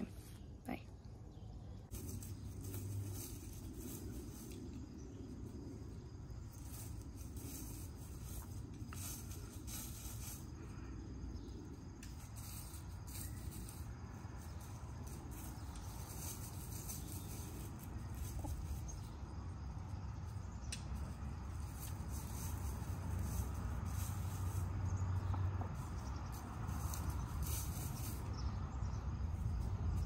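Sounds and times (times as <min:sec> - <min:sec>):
steady low rumble: 0:00.0 - 0:30.0
hens scratching in straw: 0:01.8 - 0:10.9, 0:11.6 - 0:30.0.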